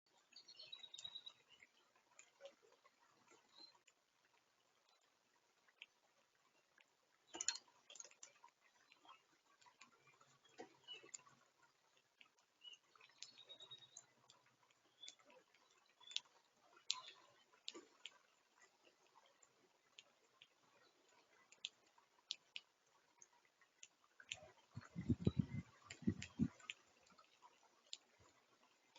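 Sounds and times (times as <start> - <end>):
beaks and feet ticking on wood: 0.1 - 28.9
bills pecking at seed: 0.1 - 28.9.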